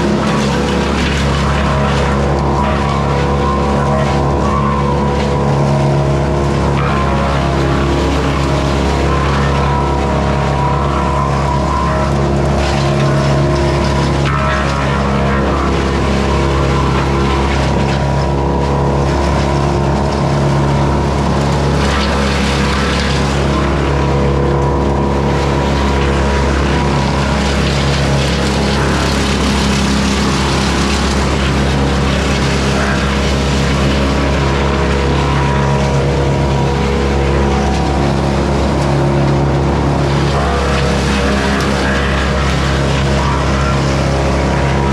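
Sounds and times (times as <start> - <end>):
wood chipper engine running: 0.0 - 44.9.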